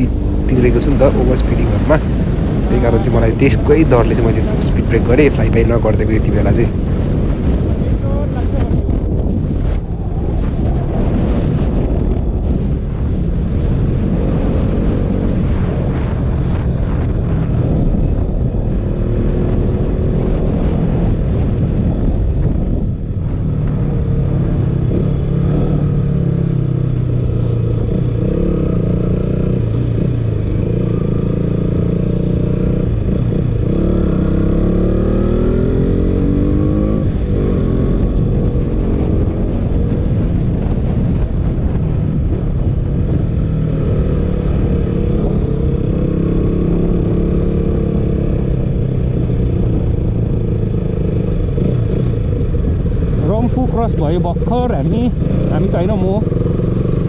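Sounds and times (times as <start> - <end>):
motorcycle engine revving: 0.0 - 7.7, 13.0 - 57.0.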